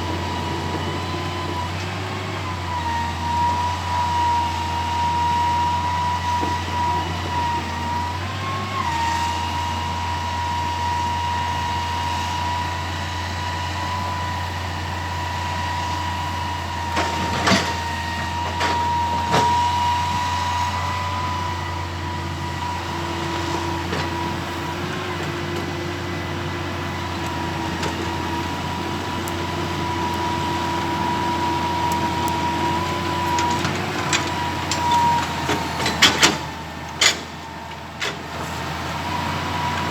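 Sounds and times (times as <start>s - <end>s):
excavator engine hum: 0.0s - 39.9s
hydraulic whine: 0.0s - 39.9s.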